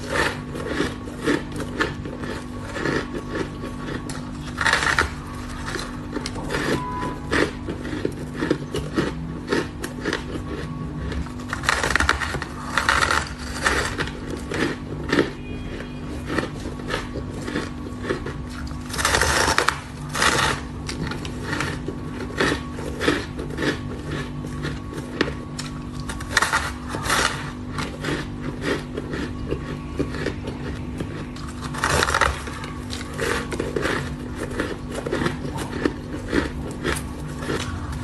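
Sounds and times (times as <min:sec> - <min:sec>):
chewing crunchy shaved ice: 0:00.0 - 0:38.0.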